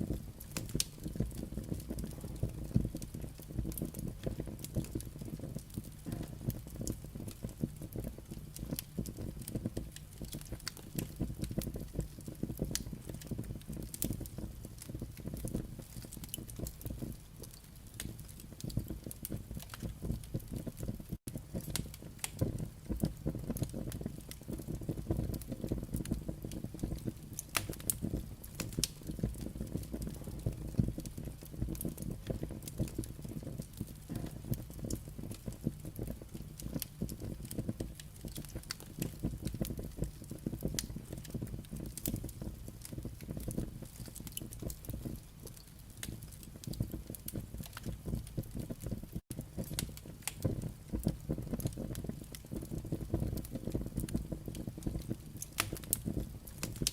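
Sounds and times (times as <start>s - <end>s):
firewood crackling and popping: 0.0s - 56.9s
low rumble of fire: 0.0s - 56.9s.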